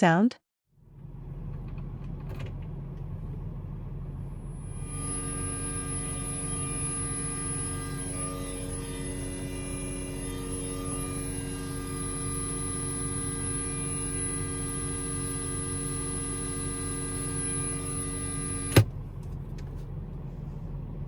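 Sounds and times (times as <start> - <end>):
buzzing whine from car speakers: 0.8 - 21.0.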